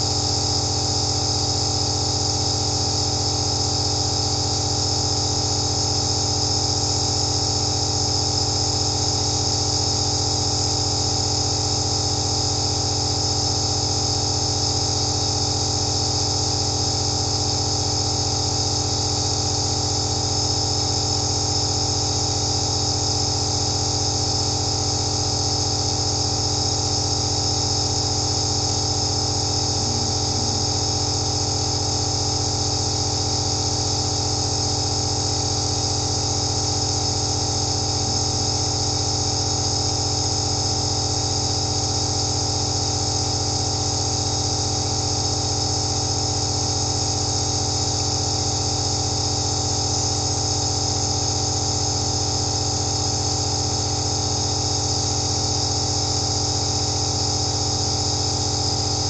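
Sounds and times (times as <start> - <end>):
nebulizer motor humming: 0.0 - 59.0.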